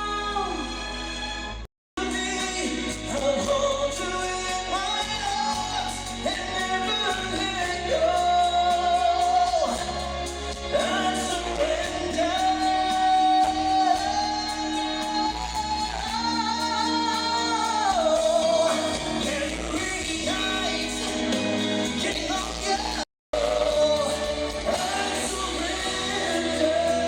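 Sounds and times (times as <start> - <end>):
live band playing: 0.0 - 27.0.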